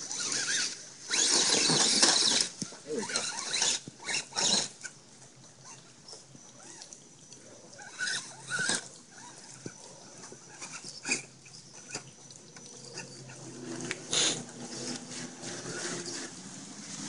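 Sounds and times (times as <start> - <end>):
electric drivetrain squealing: 0.0 - 5.0, 7.8 - 17.0.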